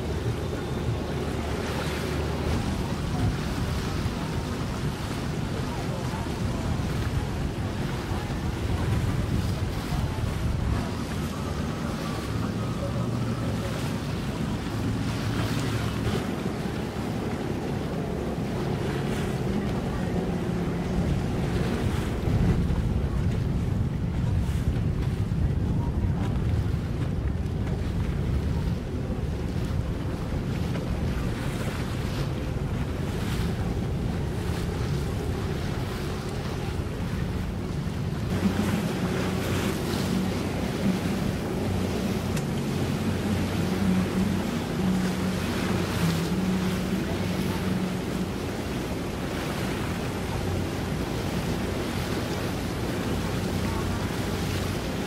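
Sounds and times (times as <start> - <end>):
boat engine humming: 0.0 - 55.0
water moving around hull: 0.0 - 55.0
wind buffeting microphone: 0.0 - 55.0.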